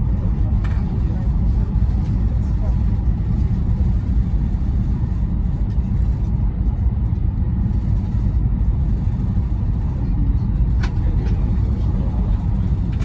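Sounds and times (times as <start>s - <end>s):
train rumbling inside passenger car: 0.0s - 13.0s.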